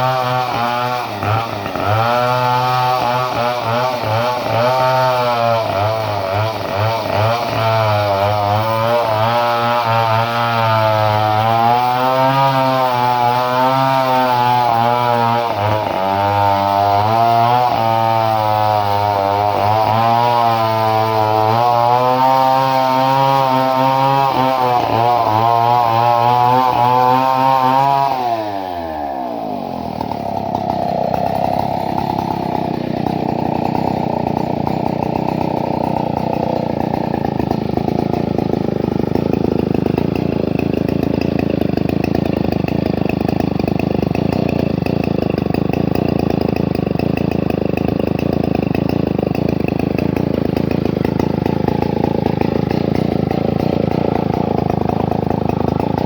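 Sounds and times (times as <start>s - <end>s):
chainsaw engine revving and idling: 0.0s - 56.0s.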